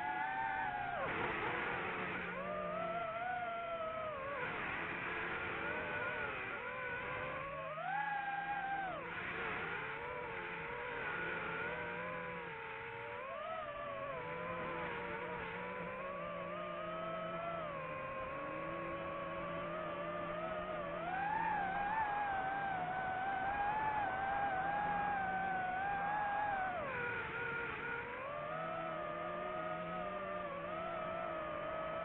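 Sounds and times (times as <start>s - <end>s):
high motor whine: 0.0s - 32.0s.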